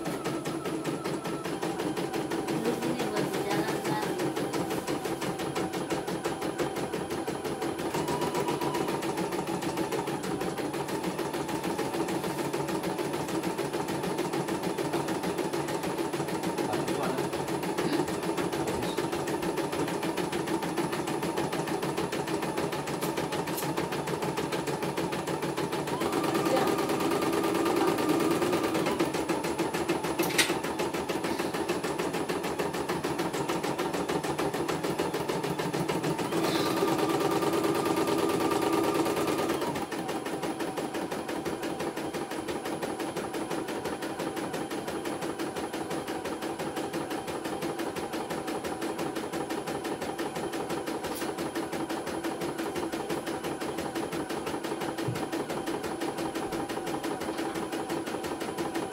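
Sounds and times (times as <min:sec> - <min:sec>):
embroidery machine needle hammering: 0:00.0 - 0:58.9.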